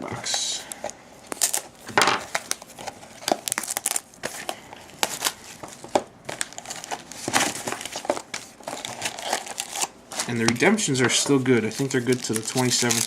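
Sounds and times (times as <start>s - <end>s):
packaging crinkling and tearing: 0.8s - 13.0s.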